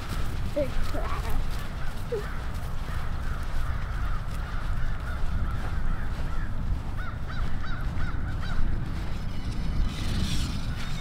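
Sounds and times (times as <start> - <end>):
birds calling: 0.0 - 11.0
wind buffeting microphone: 0.0 - 11.0.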